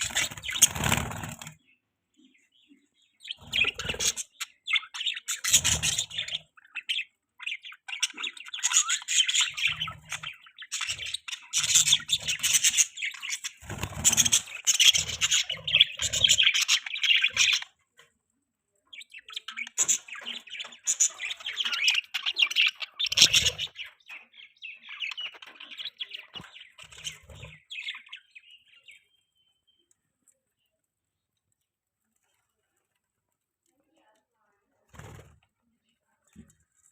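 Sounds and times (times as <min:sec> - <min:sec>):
budgerigars chirping and chattering: 0:00.0 - 0:18.0, 0:18.8 - 0:30.7.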